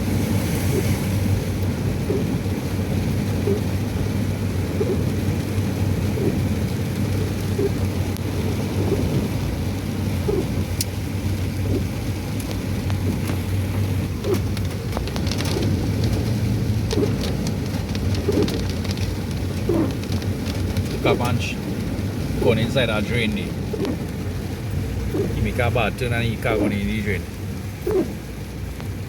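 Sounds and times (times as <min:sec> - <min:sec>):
heavy rain hissing: 0:00.0 - 0:29.0
vehicle engine rumbling: 0:00.0 - 0:29.0.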